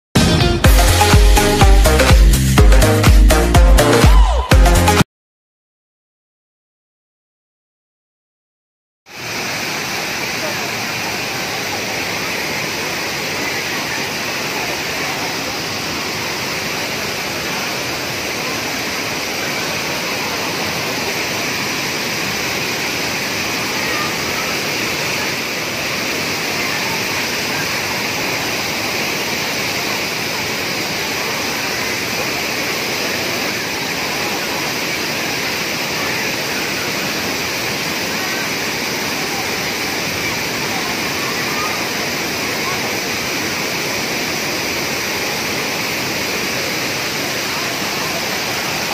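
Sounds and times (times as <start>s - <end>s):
waterfall rushing into pool: 9.1s - 48.9s.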